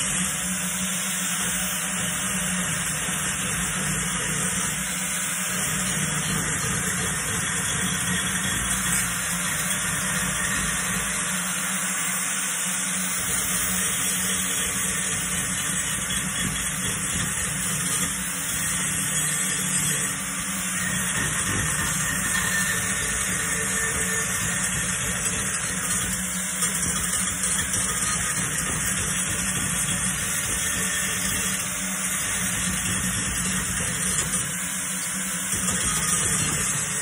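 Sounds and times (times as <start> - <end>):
angle grinder grinding steel: 0.0 - 37.0.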